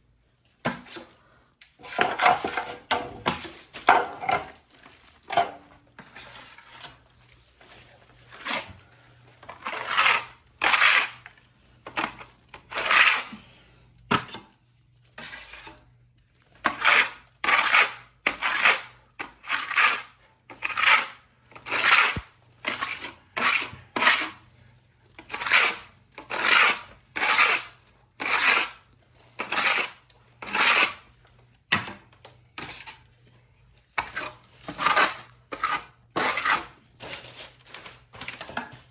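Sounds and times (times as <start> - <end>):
trowel scraping plaster wall: 0.6 - 37.6.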